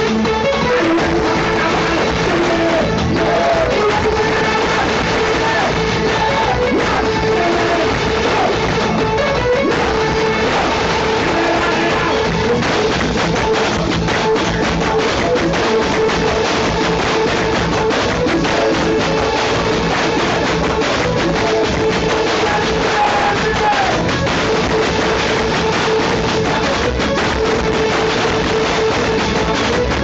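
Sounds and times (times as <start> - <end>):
drums keeping a beat: 0.0 - 30.0
live band music: 0.0 - 30.0.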